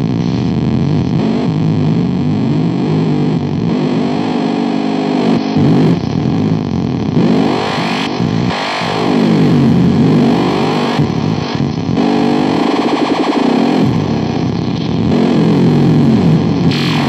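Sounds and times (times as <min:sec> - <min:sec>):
distorted synthesizer drone: 0:00.0 - 0:17.0.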